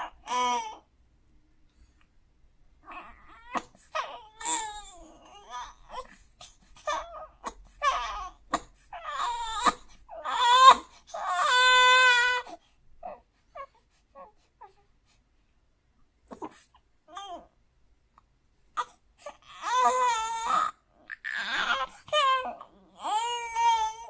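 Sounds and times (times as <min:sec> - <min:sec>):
baby whimpering and fussing: 0:00.0 - 0:00.9, 0:02.8 - 0:15.2, 0:16.3 - 0:17.6, 0:18.7 - 0:24.0.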